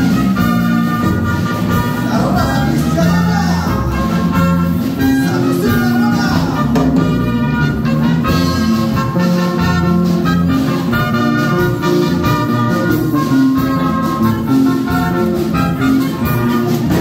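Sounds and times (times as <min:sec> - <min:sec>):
latin dance music with brass: 0:00.0 - 0:17.0.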